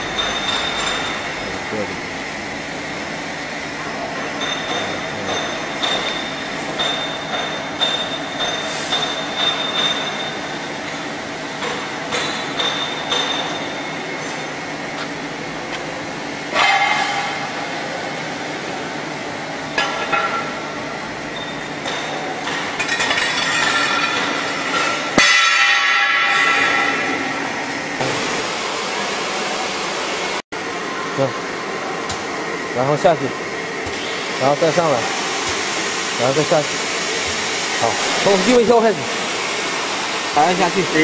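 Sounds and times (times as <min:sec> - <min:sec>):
machinery noise: 0:00.0 - 0:41.0.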